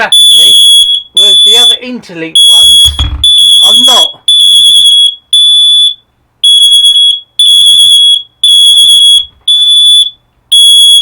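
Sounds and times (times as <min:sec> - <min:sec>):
smoke alarms beeping: 0:00.1 - 0:01.8, 0:02.4 - 0:11.0.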